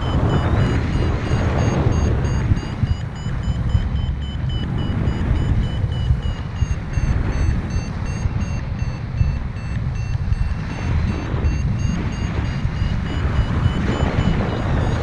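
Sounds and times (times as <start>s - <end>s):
variometer short high beeps: 0.0s - 15.0s
wind buffeting microphone: 0.0s - 15.0s.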